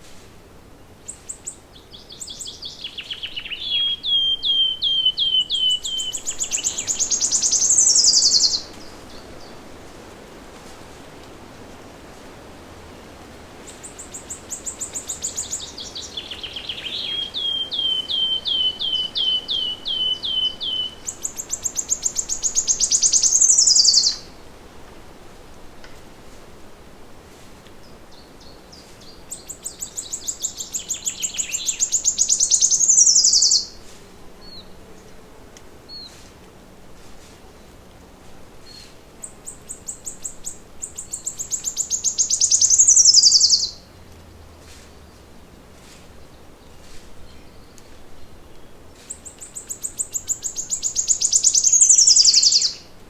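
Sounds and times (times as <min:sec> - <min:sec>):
soft background hiss: 0:00.0 - 0:53.0
songbird singing: 0:00.8 - 0:10.1, 0:13.6 - 0:24.5, 0:27.6 - 0:36.8, 0:37.5 - 0:53.0.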